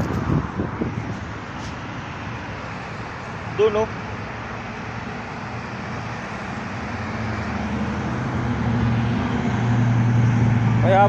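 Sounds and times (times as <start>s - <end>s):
street traffic engine hum: 0.0s - 11.0s.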